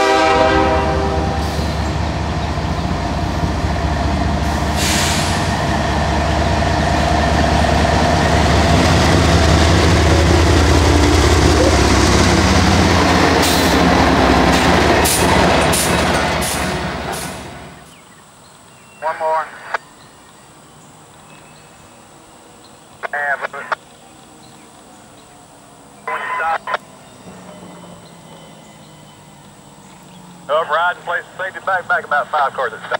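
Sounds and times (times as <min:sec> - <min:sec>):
diesel locomotive engine: 0:00.0 - 0:32.9.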